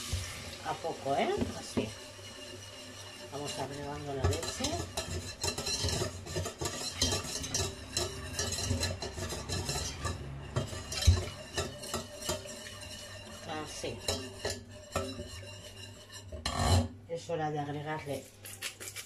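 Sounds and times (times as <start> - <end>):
whisk scraping a saucepan: 0.0 - 19.0.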